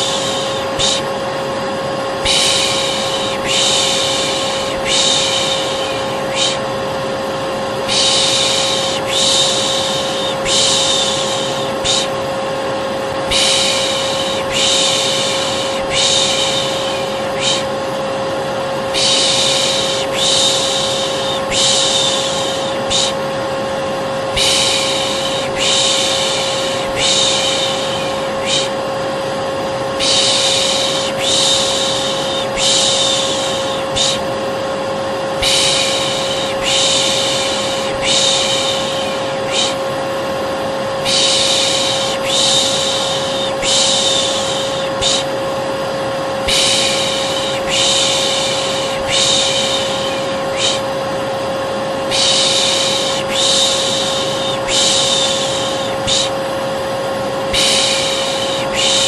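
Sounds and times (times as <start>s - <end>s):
person shushing: 0.0s - 1.2s, 2.2s - 6.7s, 7.8s - 12.2s, 13.2s - 17.8s, 18.9s - 23.3s, 24.3s - 28.9s, 30.0s - 34.4s, 35.4s - 40.0s, 41.0s - 45.4s, 46.4s - 51.0s, 52.0s - 56.5s, 57.5s - 59.0s
hair dryer running: 0.0s - 59.0s.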